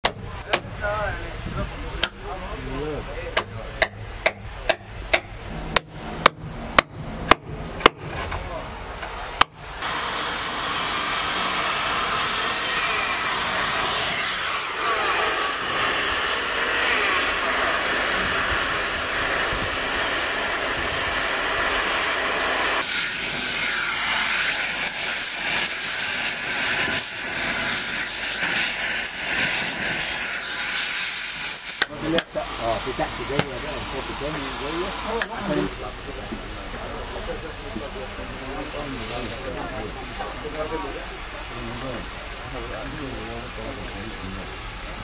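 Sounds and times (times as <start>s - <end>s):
blowtorch flame hissing: 0.2s - 45.0s.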